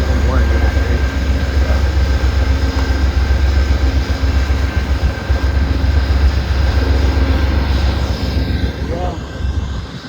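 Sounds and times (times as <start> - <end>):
idling train locomotive hum: 0.0 - 10.0
strong wind buffeting microphone: 0.0 - 10.0.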